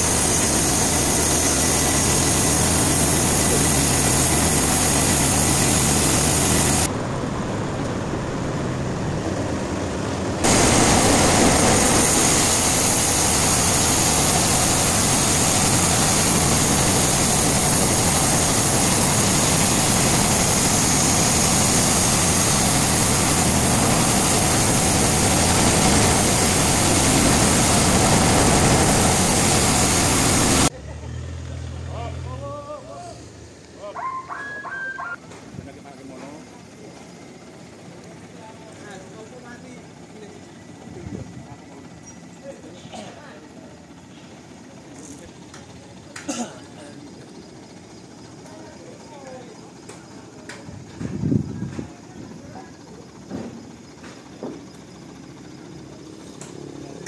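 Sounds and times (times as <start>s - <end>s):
sawmill machinery running: 0.0s - 42.8s, 43.5s - 51.2s, 52.3s - 57.0s.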